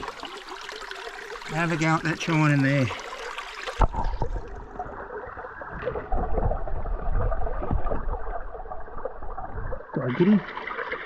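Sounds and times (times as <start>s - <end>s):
muffled underwater creek gurgling: 0.0s - 11.0s.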